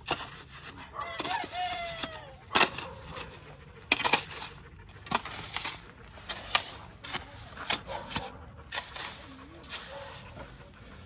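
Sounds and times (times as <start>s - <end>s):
shovel scraping wet concrete: 0.0s - 11.0s.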